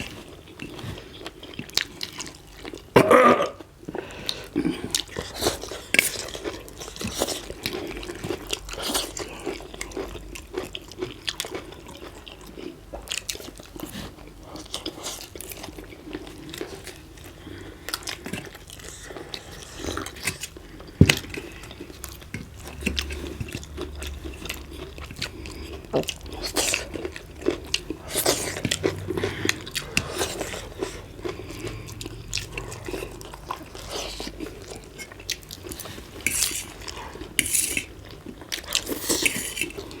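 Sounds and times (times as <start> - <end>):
biting and chewing food: 0.0 - 40.0.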